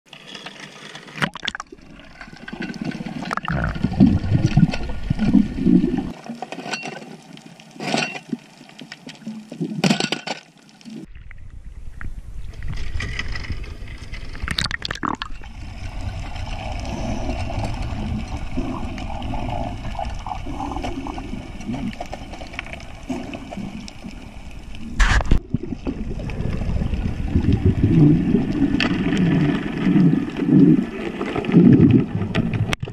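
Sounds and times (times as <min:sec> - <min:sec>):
water sloshing and bubbling: 0:00.1 - 0:32.9
low underwater rumble: 0:01.5 - 0:06.1, 0:11.1 - 0:32.9.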